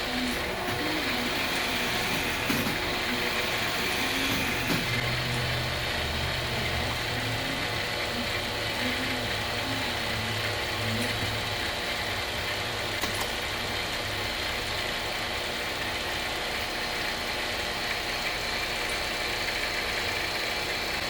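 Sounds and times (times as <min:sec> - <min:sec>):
lathe motor and gearing hum: 0:00.0 - 0:21.0.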